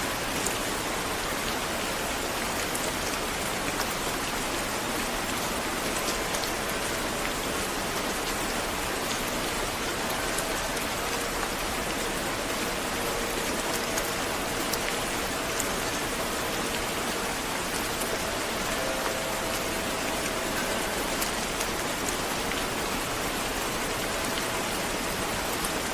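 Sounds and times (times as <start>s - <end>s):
raindrop ticks: 0.0s - 25.9s
steady rain hiss: 0.0s - 25.9s.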